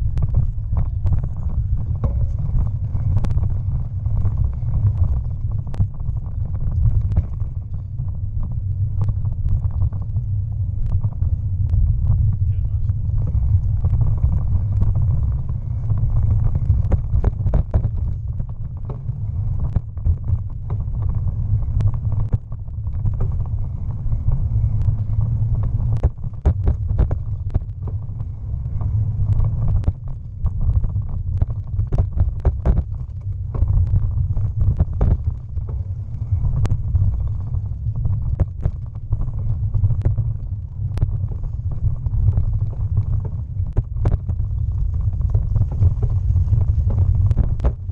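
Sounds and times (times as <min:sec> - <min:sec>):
bicycle tyres rumbling: 0:00.0 - 0:47.9.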